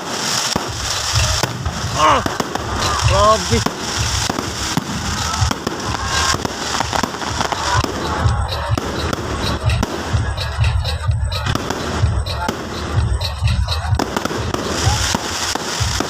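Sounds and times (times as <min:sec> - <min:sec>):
fireworks booming: 0:00.0 - 0:16.0
fireworks crackling: 0:00.0 - 0:16.0.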